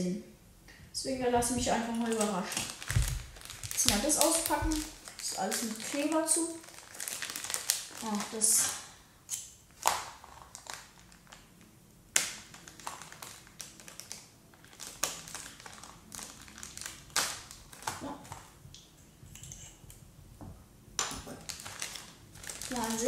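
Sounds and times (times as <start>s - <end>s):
plastic bag crinkling: 1.4s - 9.0s, 9.7s - 18.7s, 21.0s - 23.0s.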